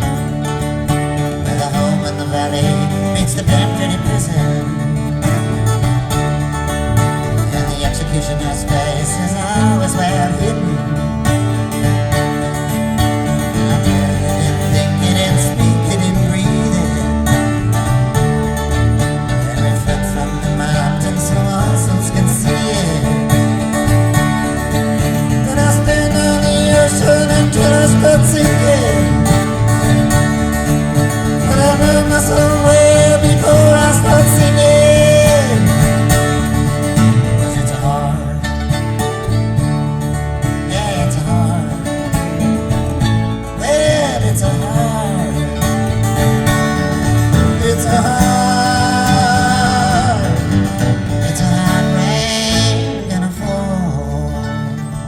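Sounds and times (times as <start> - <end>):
bass: 0.0 - 55.0
guitars: 0.0 - 55.0
live band instrumental: 0.0 - 55.0.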